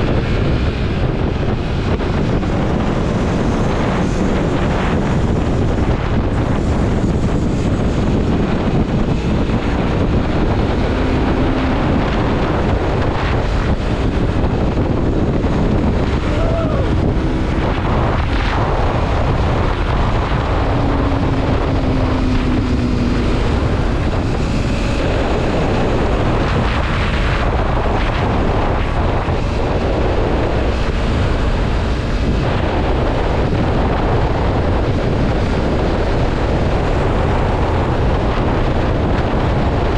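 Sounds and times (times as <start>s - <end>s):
motorcycle engine: 0.0s - 39.9s
road noise: 0.0s - 39.9s
wind buffeting microphone: 0.0s - 39.9s.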